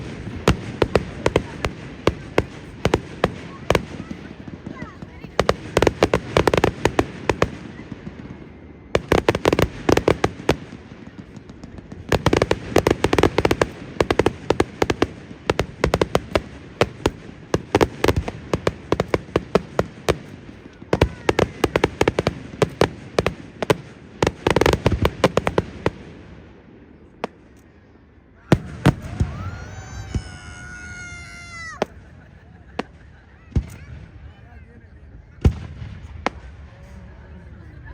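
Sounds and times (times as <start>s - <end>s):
fireworks crackling bangs: 0.0s - 37.3s.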